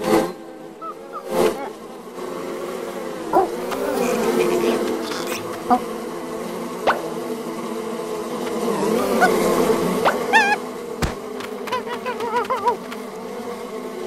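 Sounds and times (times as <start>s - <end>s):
wavering insect-like buzz: 0.0s - 14.0s.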